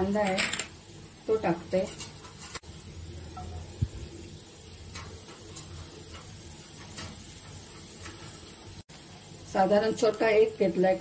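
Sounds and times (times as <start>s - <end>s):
oil sizzling with small pops: 0.0s - 11.0s.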